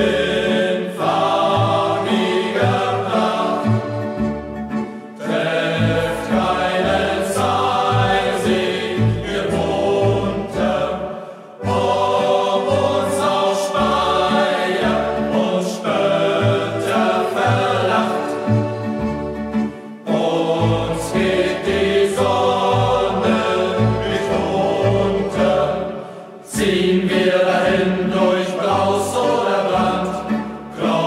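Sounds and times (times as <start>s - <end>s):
youth choir singing: 0.0s - 4.4s, 5.2s - 19.0s, 20.0s - 31.0s
low accompanying notes: 0.0s - 31.0s.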